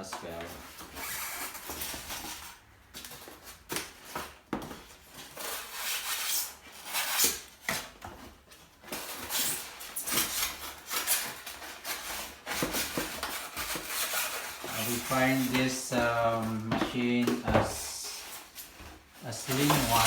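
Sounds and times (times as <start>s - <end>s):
packaging rustling and scraping: 0.0s - 20.0s.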